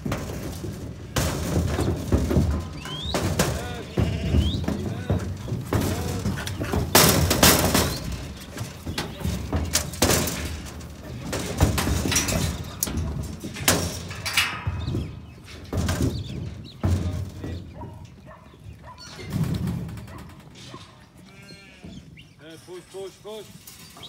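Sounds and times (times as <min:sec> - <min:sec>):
metal gates clanking and rattling: 0:00.0 - 0:24.0.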